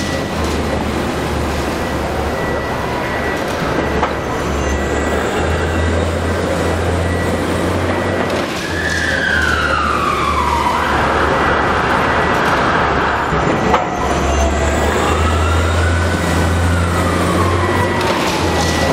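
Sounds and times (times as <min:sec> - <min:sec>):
traffic rumble: 0:00.0 - 0:18.9
whining tone sliding down: 0:01.5 - 0:18.9.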